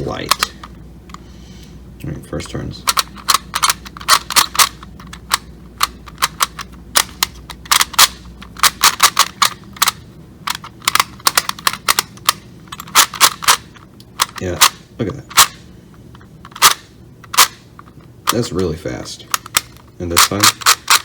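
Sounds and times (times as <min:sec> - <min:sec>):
puzzle dials clicking: 0:00.0 - 0:01.2, 0:02.8 - 0:21.0.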